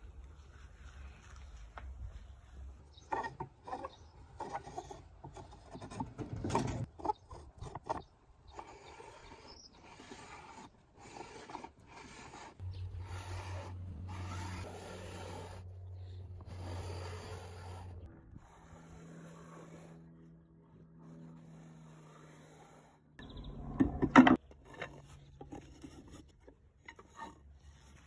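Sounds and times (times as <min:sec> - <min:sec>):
wooden plough rasping: 0:03.0 - 0:28.0.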